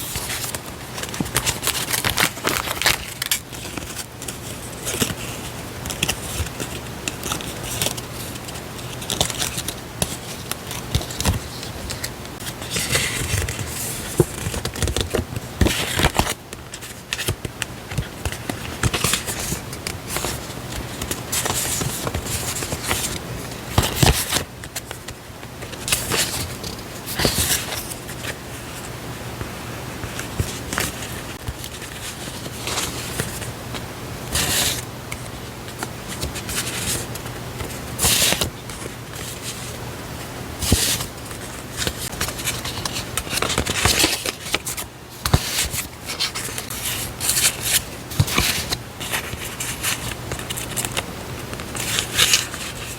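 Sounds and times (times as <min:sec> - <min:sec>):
paper and packaging rustling: 0:00.0 - 0:29.0, 0:30.0 - 0:52.9.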